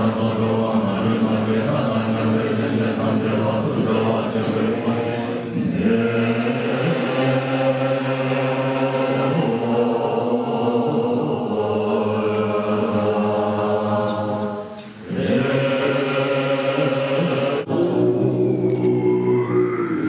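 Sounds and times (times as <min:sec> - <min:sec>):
monks chanting in low voices: 0:00.0 - 0:20.0.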